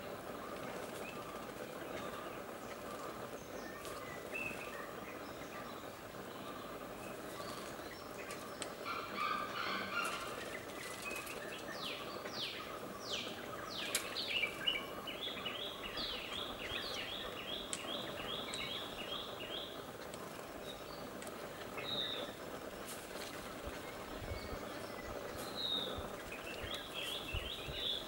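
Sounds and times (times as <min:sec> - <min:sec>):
outdoor hiss: 0:00.0 - 0:28.0
small birds calling: 0:00.0 - 0:28.0.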